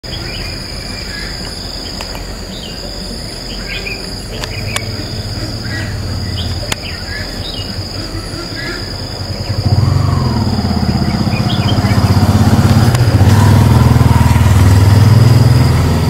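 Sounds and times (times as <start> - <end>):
bird chirps: 0.0 - 13.5
high-pitched insect drone: 0.1 - 16.0.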